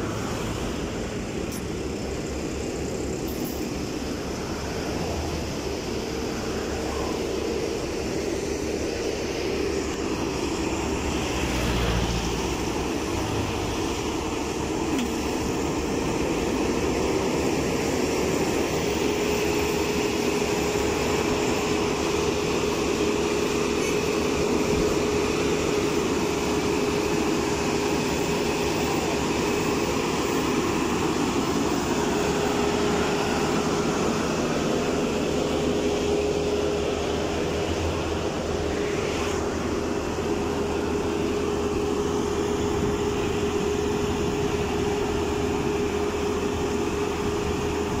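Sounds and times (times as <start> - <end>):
paver engine drone: 0.0 - 48.0
steady machine whine: 0.0 - 48.0.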